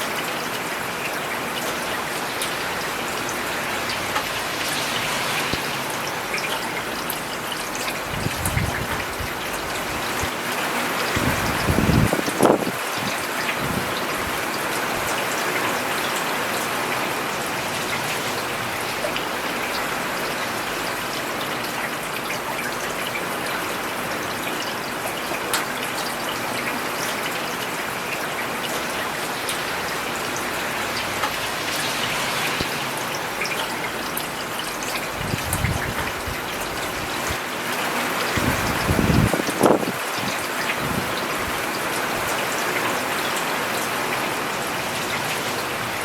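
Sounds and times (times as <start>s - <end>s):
rain on pavement: 0.0s - 46.0s.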